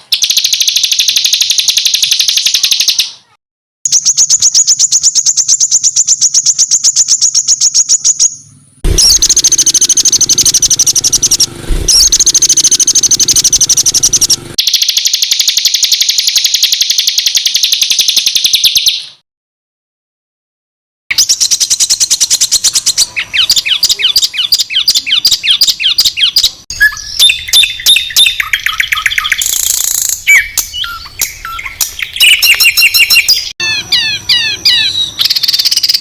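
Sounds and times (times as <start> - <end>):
songbird harsh rapid call: 0.0 - 19.2, 21.1 - 36.0.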